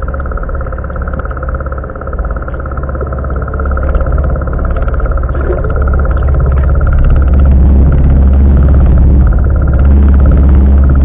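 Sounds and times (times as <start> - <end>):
boat engine heard underwater: 0.0 - 11.0.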